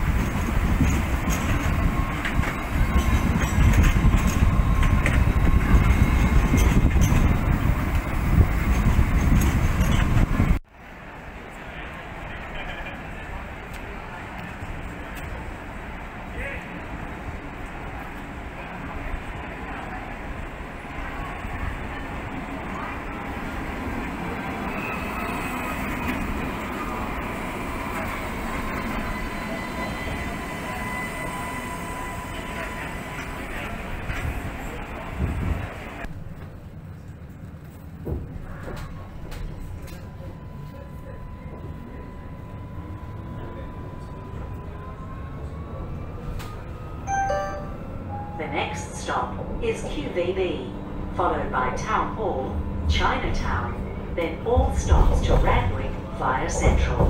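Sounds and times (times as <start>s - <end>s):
tram rumbling past: 0.0s - 57.0s.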